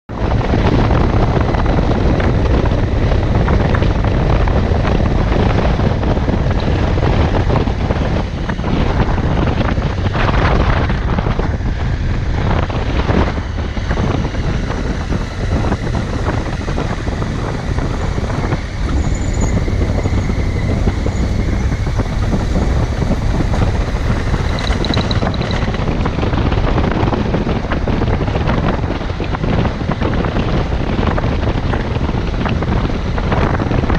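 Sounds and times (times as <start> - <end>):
motorcycle engine and tyres: 0.1 - 33.9
wind buffeting microphone: 0.1 - 33.9.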